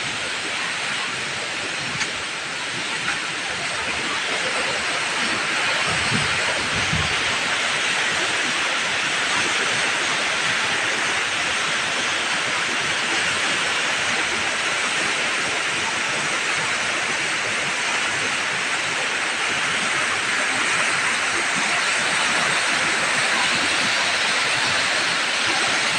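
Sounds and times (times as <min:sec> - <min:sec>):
flood river rushing: 0:00.0 - 0:25.9.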